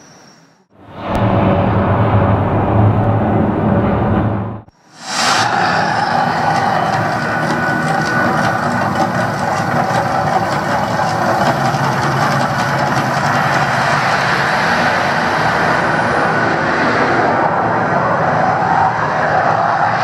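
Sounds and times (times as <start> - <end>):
rush of gas flames: 0.8 - 20.0.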